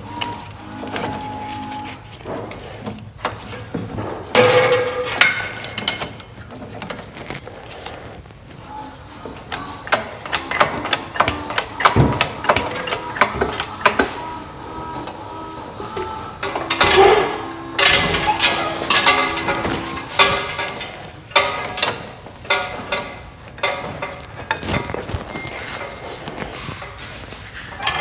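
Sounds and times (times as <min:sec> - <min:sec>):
metal tools clanking: 0:00.0 - 0:07.4, 0:08.7 - 0:28.0.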